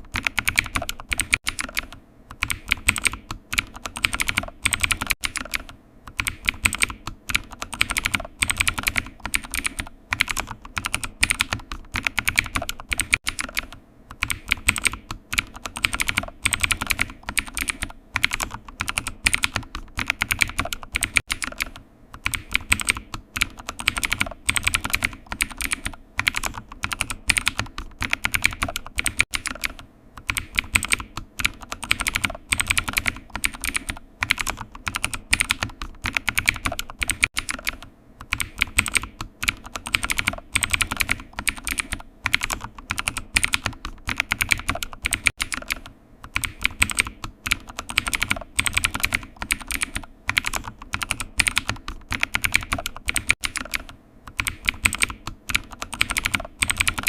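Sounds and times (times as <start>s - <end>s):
keyboard typing: 0.0s - 57.0s.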